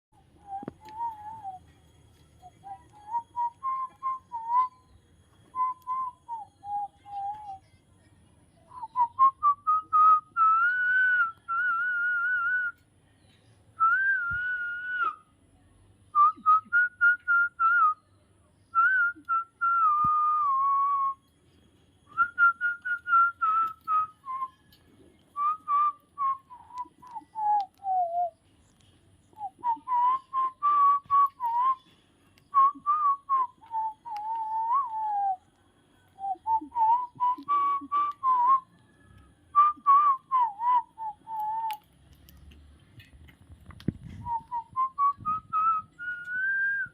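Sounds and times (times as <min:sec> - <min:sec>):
person whistling a tune: 0:00.4 - 0:01.7, 0:02.4 - 0:07.7, 0:08.7 - 0:12.8, 0:13.8 - 0:15.2, 0:16.1 - 0:18.0, 0:18.7 - 0:21.3, 0:22.1 - 0:28.5, 0:29.3 - 0:35.5, 0:36.1 - 0:41.8, 0:44.2 - 0:46.9.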